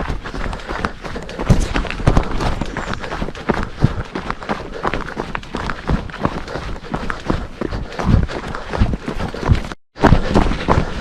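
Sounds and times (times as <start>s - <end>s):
footsteps crunching on trail: 0.0s - 11.0s.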